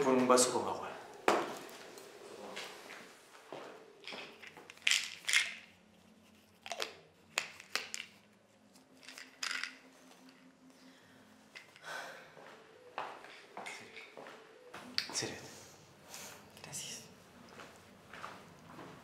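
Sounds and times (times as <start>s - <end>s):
faint low room hum: 0.0s - 19.0s.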